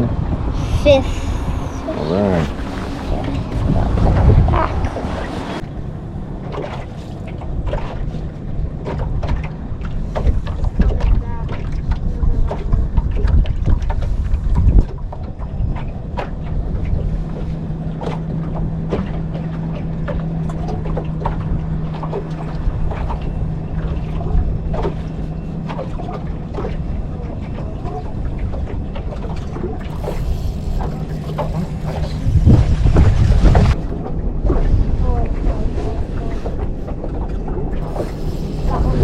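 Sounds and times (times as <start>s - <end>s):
boat motor humming: 0.0s - 39.0s
wind buffeting microphone: 0.0s - 39.0s.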